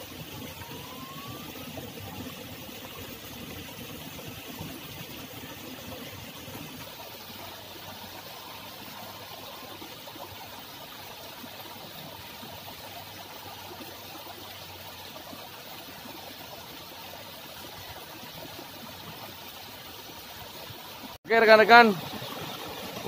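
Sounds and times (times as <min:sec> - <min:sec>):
canal water flowing: 0:00.0 - 0:23.0.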